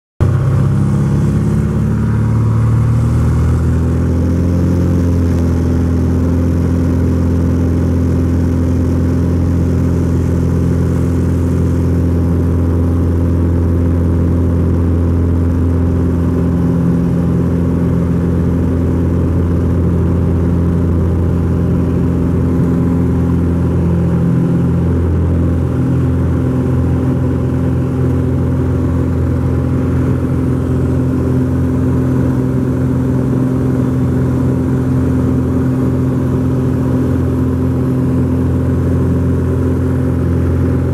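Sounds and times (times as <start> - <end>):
aircraft engine and propeller drone: 0.2 - 40.9.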